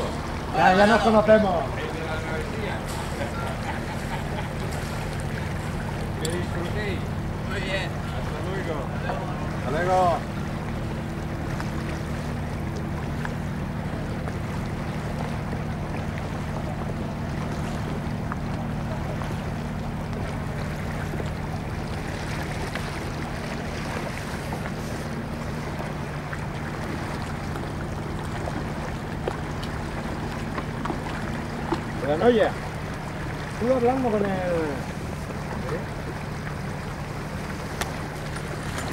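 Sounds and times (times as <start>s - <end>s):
motorboat engine humming: 0.0s - 38.9s
water rushing: 0.0s - 38.9s
wind: 0.0s - 38.9s.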